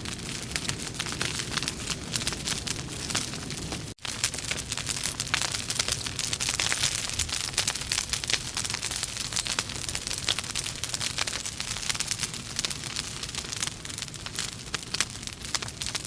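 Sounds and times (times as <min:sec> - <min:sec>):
logs crackling and popping: 0:00.0 - 0:16.0.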